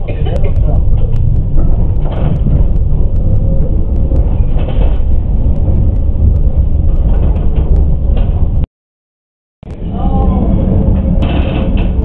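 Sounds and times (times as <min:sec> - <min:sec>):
tram wheels rumbling on rails: 0:00.0 - 0:08.7, 0:09.6 - 0:12.0.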